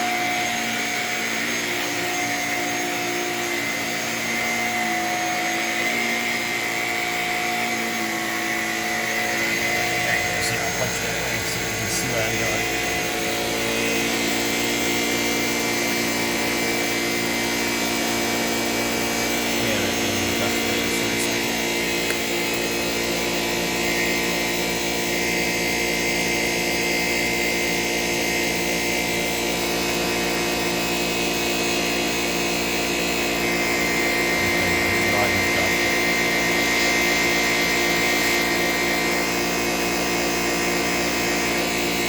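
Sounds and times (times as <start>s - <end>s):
vacuum cleaner motor whine: 0.0s - 42.0s.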